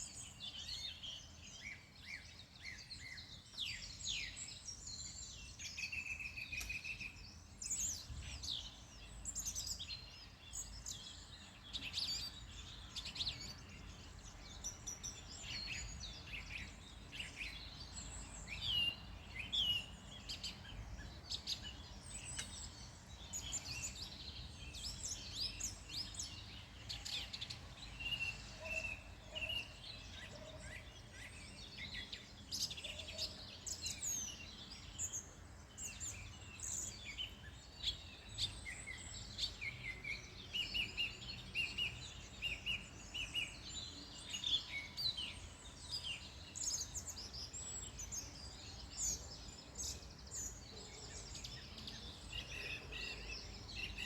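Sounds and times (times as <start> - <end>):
songbirds singing and calling: 0.0 - 54.0.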